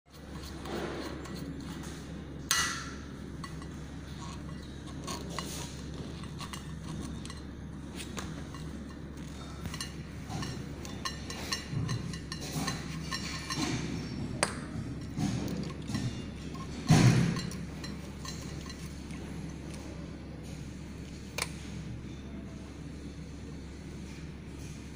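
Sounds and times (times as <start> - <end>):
steady low hum: 0.1 - 24.9.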